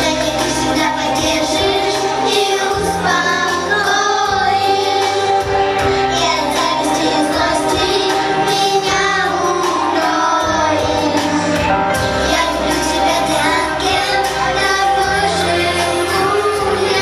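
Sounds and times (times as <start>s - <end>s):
children singing: 0.0s - 17.0s
music backing track: 0.0s - 17.0s.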